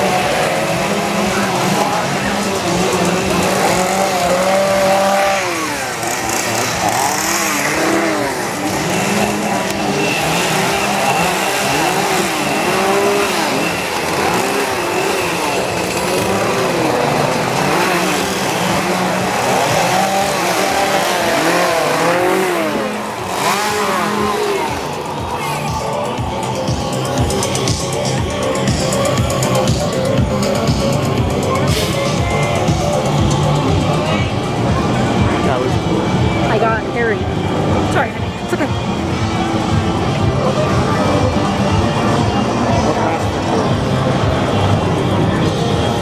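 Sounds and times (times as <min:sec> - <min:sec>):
small engines revving: 0:00.0 - 0:46.0.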